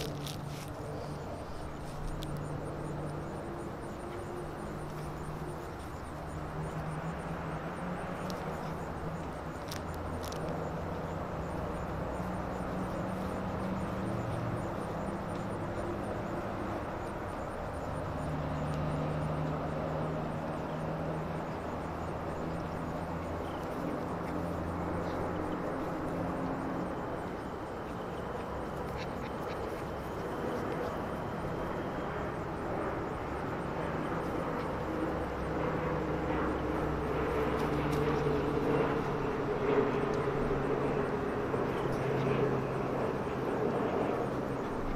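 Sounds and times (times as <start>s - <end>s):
distant engine droning: 0.0s - 44.9s.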